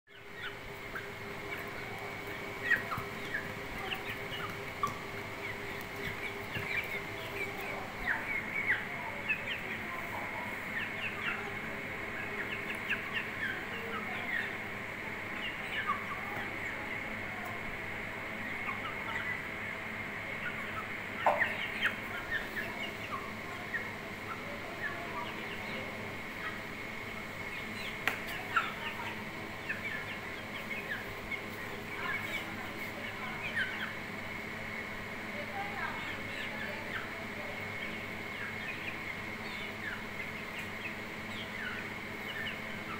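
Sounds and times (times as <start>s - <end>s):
chickens chirping and clucking: 0.1s - 42.9s.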